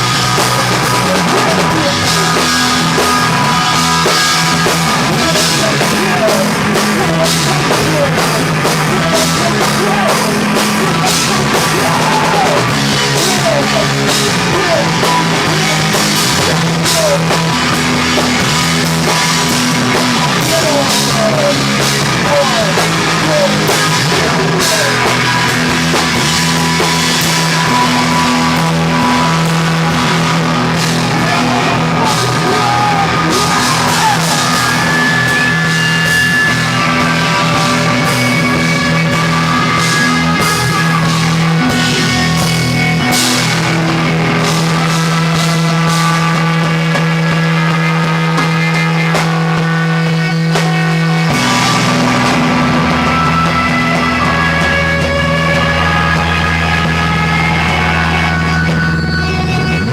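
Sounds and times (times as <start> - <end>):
rock band playing live: 0.0 - 59.9
sliding guitar notes: 0.0 - 59.9.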